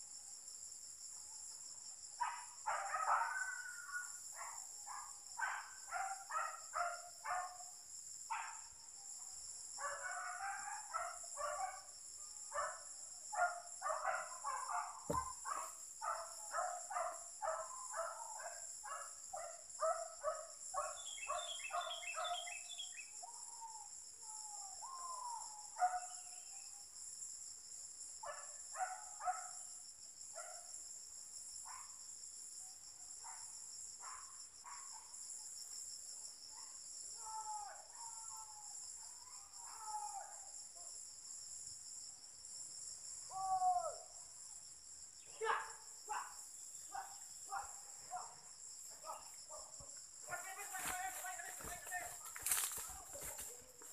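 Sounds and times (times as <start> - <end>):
high insect drone: 0.0 - 53.9.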